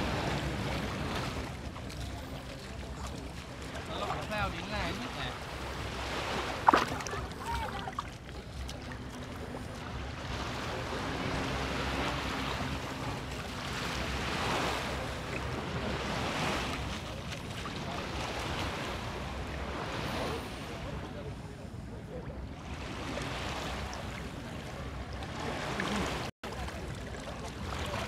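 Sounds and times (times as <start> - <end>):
sea water lapping and sloshing: 0.0 - 28.0.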